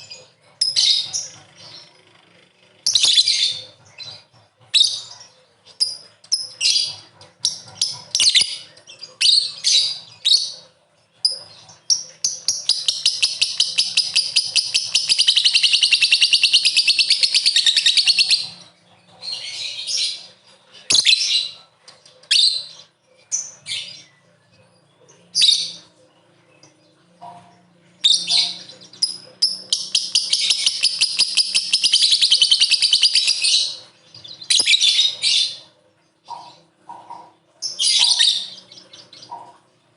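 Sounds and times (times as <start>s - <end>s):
bird rapid chattering trill: 0.0s - 24.2s, 25.1s - 39.7s
lovebird chirping: 0.0s - 39.9s.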